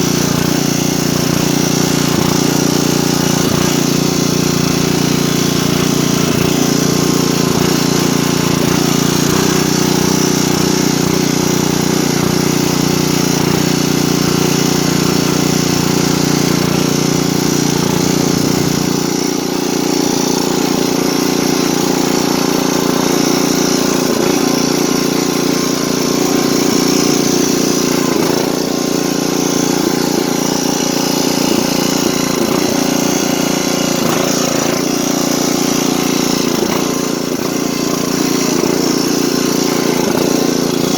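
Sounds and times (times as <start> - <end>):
riding lawn mower engine running: 0.0 - 40.9.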